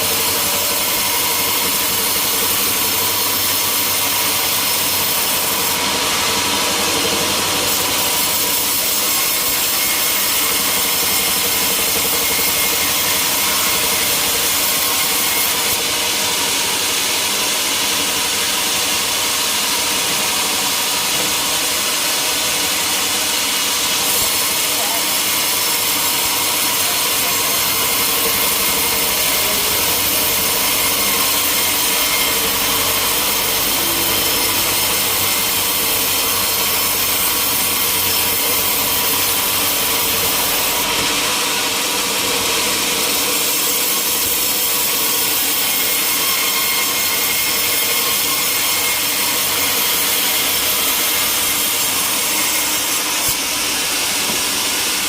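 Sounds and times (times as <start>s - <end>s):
saw cutting through timber: 0.0s - 55.0s.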